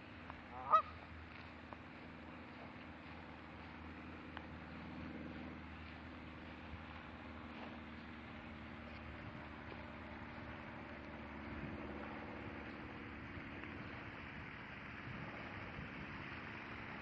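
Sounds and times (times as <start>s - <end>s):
steady low rumble and hiss: 0.0s - 17.0s.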